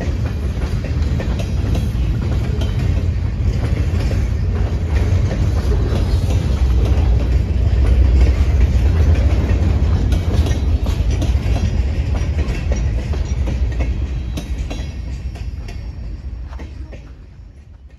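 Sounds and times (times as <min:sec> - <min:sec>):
rumble of train wheels: 0:00.0 - 0:17.9.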